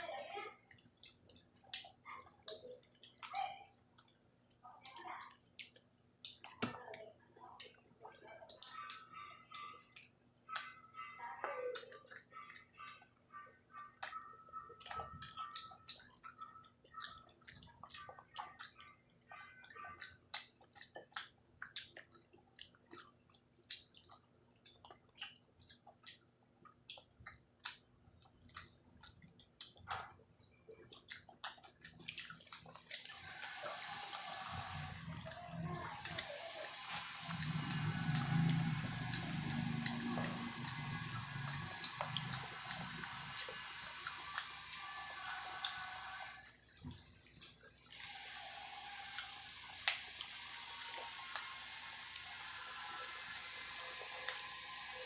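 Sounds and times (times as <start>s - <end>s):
chewing and mouth noises: 0.5s - 55.0s.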